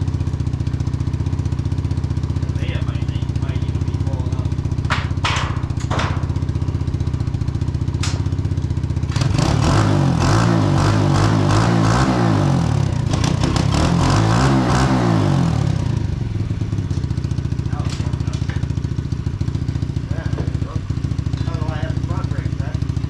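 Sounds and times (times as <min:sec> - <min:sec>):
dirt bike engine revving: 0:00.8 - 0:23.0.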